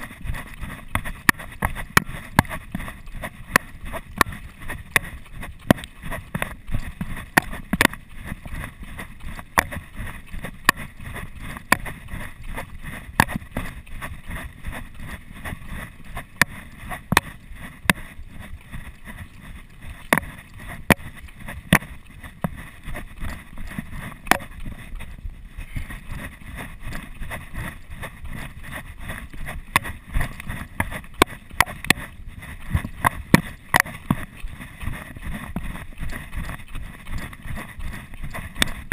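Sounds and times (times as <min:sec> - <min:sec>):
low rumble of jostling and wind: 0:00.0 - 0:38.9
running footsteps on gravel: 0:00.0 - 0:38.9.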